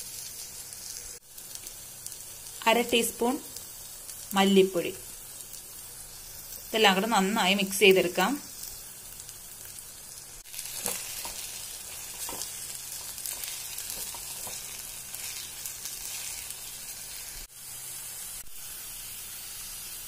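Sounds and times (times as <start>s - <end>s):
masala sizzling in a pan: 0.0s - 20.0s.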